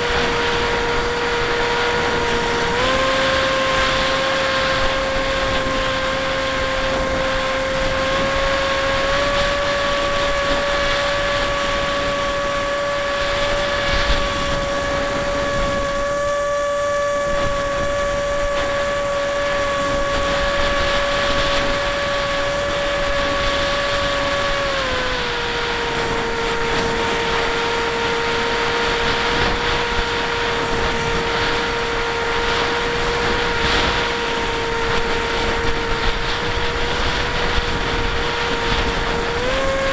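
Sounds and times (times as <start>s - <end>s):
model plane motor whining: 0.0s - 39.9s
wind rushing on microphone: 0.0s - 39.9s.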